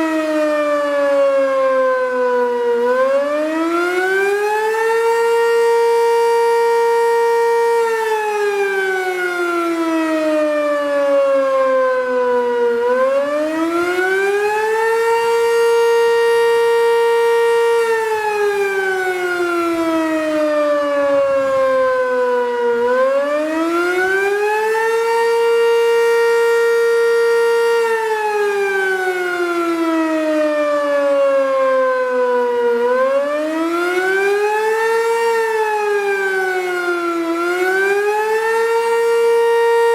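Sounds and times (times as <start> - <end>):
dual-tone warning siren rising and falling: 0.0 - 39.9.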